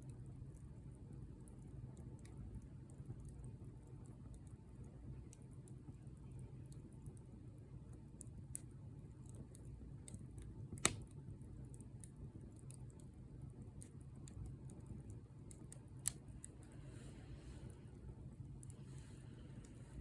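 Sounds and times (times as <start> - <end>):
bonfire crackling: 0.0 - 20.0
low steady rumble: 0.0 - 20.0.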